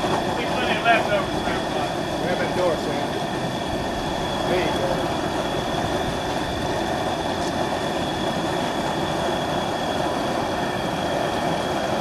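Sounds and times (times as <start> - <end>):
gas burner roar: 0.0 - 12.0.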